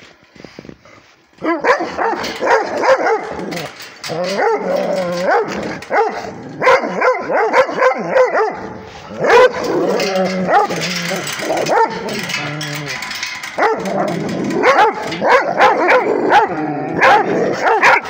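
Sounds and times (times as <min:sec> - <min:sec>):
dogs barking and yelping: 0:01.4 - 0:18.0.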